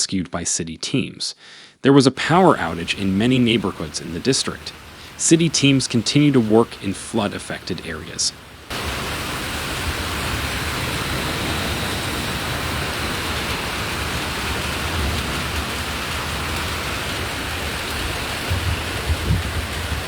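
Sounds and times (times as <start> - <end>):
heavy rain pouring: 2.2 - 20.0.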